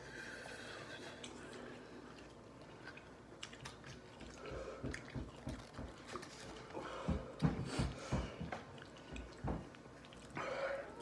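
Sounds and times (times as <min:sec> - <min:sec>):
chewing and wet mouth noises: 0:00.1 - 0:11.0.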